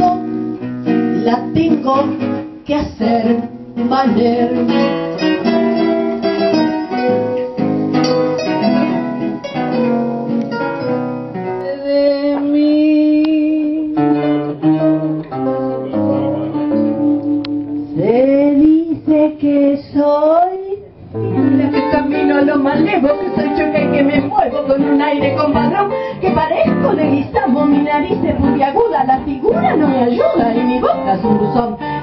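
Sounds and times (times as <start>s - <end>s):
acoustic guitar tango: 0.0s - 32.0s.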